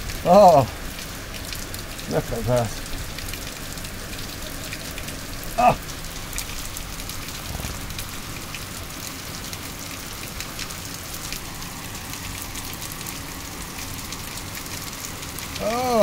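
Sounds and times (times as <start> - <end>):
heavy rain: 0.0 - 16.0
raindrops ticking close by: 0.0 - 16.0.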